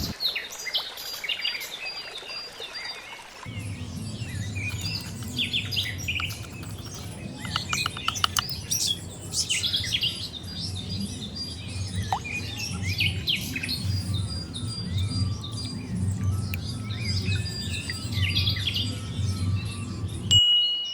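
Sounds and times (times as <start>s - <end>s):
rattling trill of ticks: 3.5s - 20.3s
low hum: 3.5s - 20.4s
birds chirping: 3.5s - 20.9s.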